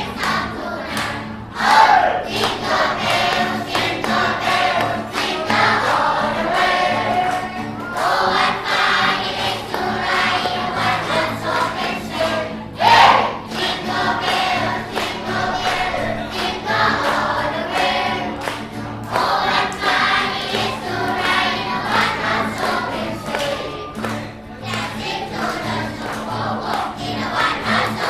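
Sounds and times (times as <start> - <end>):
children's choir singing: 0.0 - 28.0.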